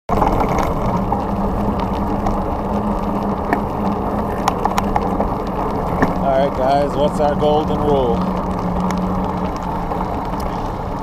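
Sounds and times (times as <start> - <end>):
vehicle engines idling: 0.1 - 11.0.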